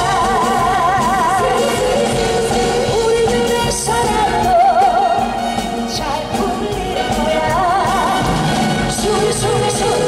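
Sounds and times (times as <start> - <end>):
loud backing track: 0.0 - 10.0
woman singing into microphone: 0.0 - 10.0.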